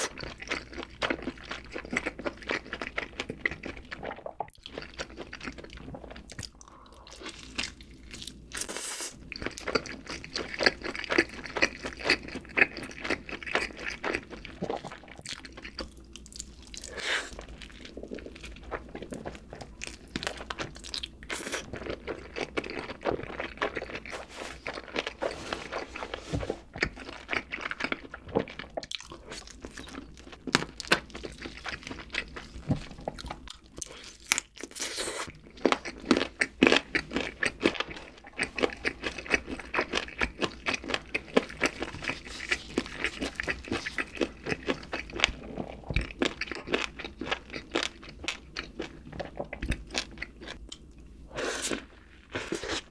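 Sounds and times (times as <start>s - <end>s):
wet chewing: 0.0s - 52.9s
crunching fried food: 7.2s - 50.9s.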